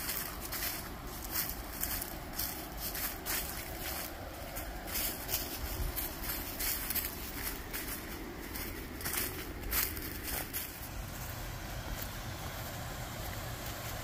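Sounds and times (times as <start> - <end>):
footsteps on trail: 0.0 - 14.0
steady low rushing noise: 0.0 - 14.0.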